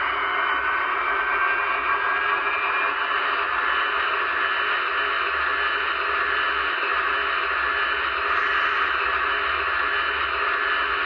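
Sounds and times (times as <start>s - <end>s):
model turbine noise from speaker: 0.0s - 11.0s.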